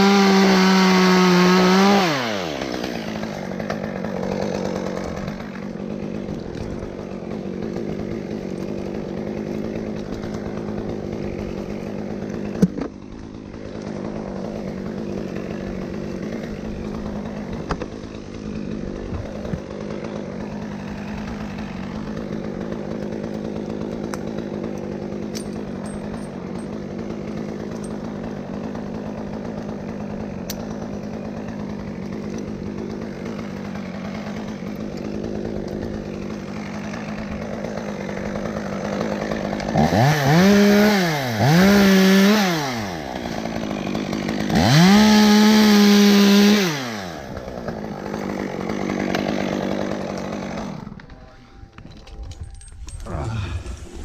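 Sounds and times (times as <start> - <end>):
chainsaw idling: 0.0 - 54.0
chainsaw revving: 0.0 - 54.0.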